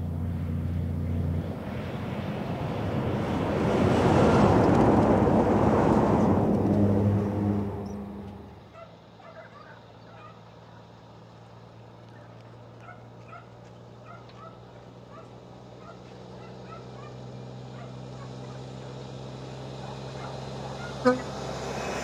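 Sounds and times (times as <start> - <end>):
truck diesel engine drone: 0.0 - 12.0, 14.7 - 22.0.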